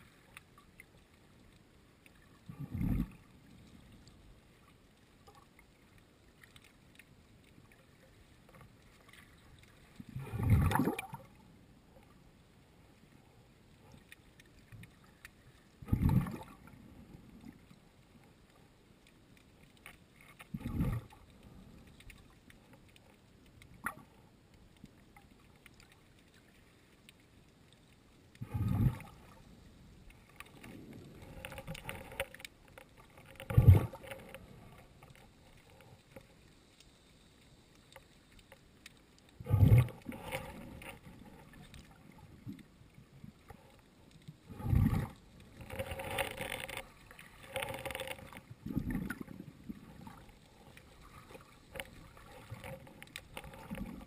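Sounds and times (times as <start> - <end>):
underwater water surges: 0.0 - 54.0.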